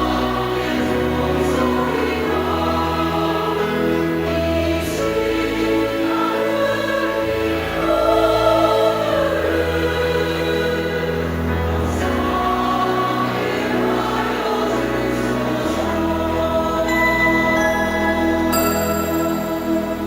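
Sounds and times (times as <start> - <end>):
church choir singing a hymn: 0.0 - 20.0.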